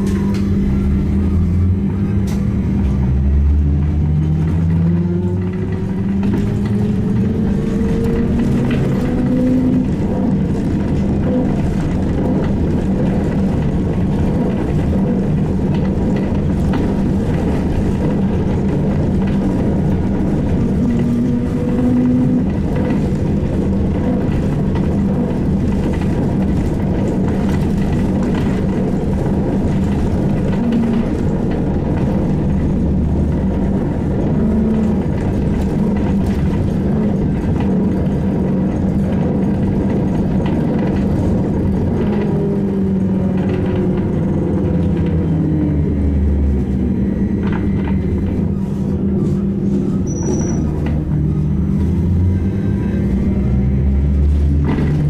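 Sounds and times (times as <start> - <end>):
road rumble: 0.0 - 55.0.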